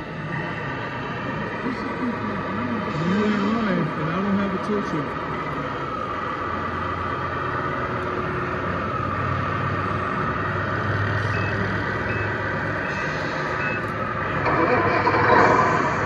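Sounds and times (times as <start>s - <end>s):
hall noise: 0.0s - 16.0s
toy truck diesel engine hum: 0.0s - 16.0s.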